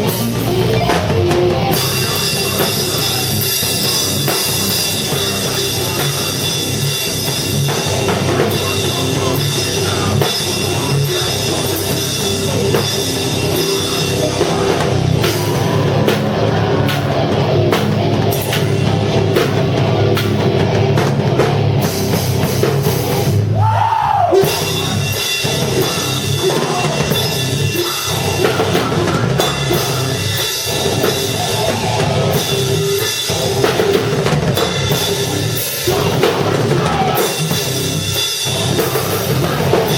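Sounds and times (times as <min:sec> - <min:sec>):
drum kit beat: 0:00.0 - 0:39.9
rock band playing live: 0:00.0 - 0:39.9.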